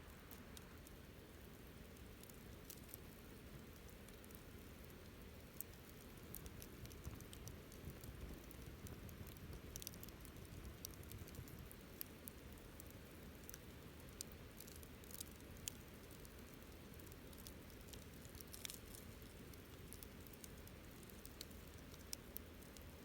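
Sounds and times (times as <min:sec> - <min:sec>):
low steady fire rumble: 0:00.0 - 0:23.0
campfire crackles and pops: 0:00.1 - 0:23.0.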